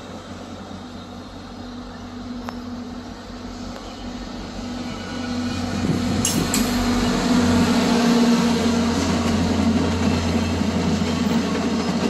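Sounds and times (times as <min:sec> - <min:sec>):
diesel locomotive engine hum: 0:00.0 - 0:12.0
train rumble: 0:00.0 - 0:12.0.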